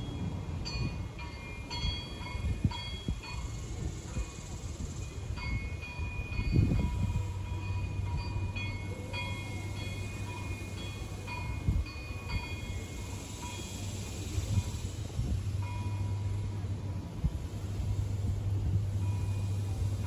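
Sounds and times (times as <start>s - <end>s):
wind gusting over microphone: 0.2s - 8.8s, 11.0s - 20.0s.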